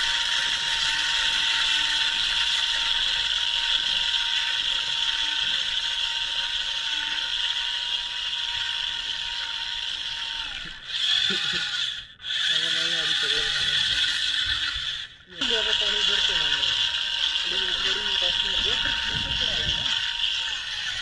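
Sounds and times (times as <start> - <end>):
small electric motor whirring: 0.0 - 21.0.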